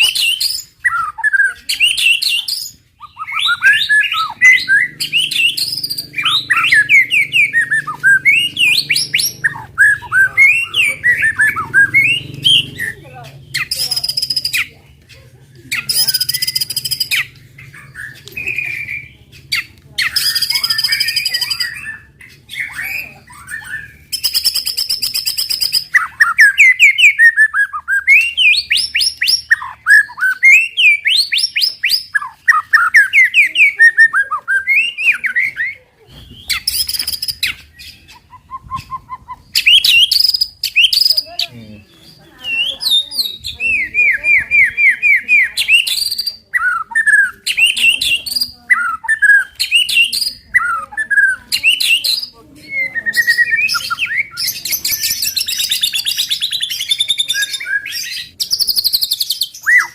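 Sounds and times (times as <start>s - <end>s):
bird whistled song phrases: 0.0s - 14.7s, 15.6s - 59.9s.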